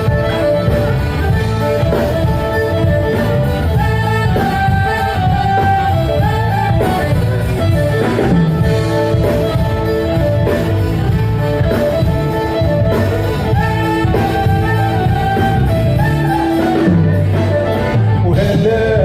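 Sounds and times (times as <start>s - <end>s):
live band through speakers: 0.0s - 19.0s.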